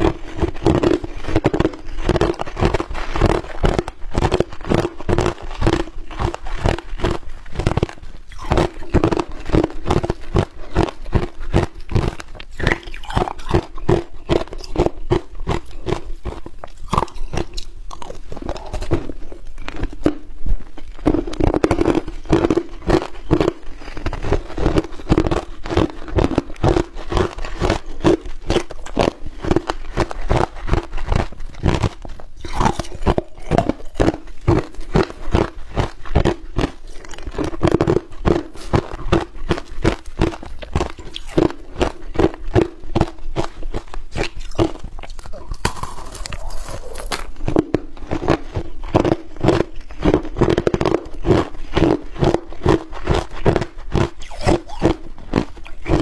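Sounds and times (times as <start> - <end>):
chewing crushed ice: 0.0 - 56.0.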